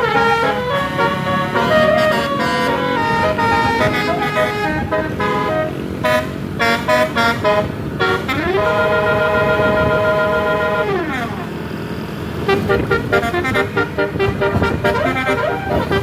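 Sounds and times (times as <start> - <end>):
musical bus horn tune: 0.0 - 16.0.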